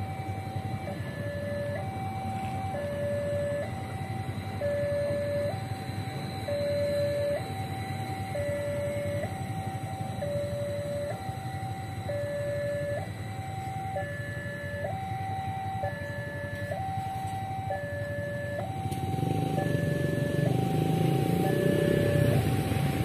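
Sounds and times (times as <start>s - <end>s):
low rumble of tram: 0.0s - 23.0s
two-tone crossing alarm: 0.0s - 23.0s.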